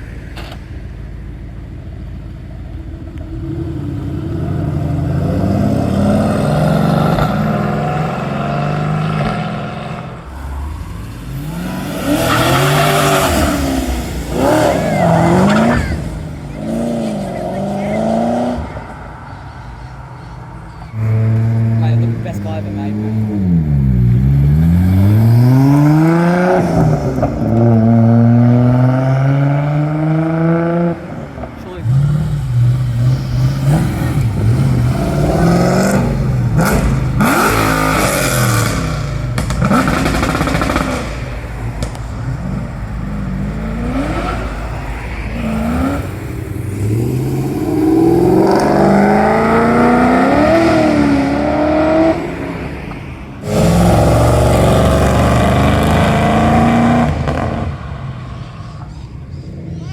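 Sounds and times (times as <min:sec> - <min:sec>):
car engine accelerating: 0:00.0 - 0:59.8.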